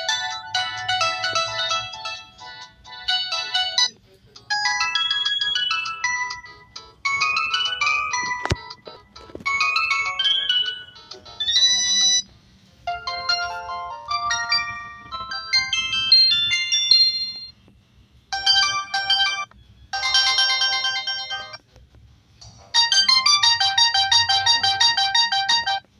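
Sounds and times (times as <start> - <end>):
phone ringtone melodies: 0.0 - 12.3, 12.9 - 17.6, 18.3 - 21.6, 22.7 - 25.8.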